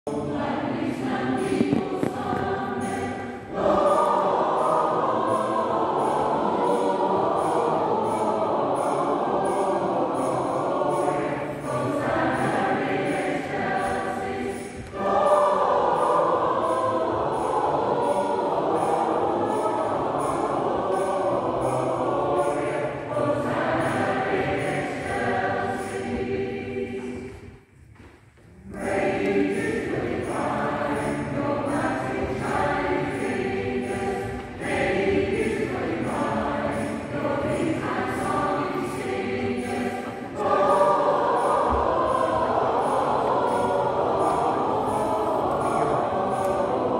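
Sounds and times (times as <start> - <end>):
choir singing sustained notes: 0.0 - 46.9.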